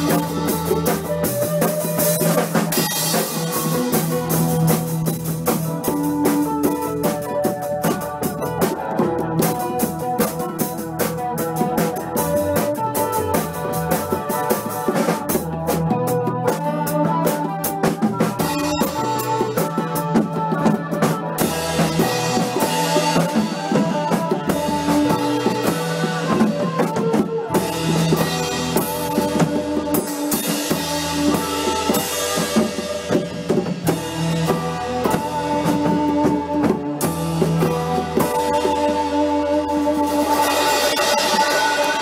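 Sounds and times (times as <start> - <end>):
bass notes: 0.0 - 42.0
drum kit beat: 0.0 - 42.0
lead guitar: 0.0 - 42.0.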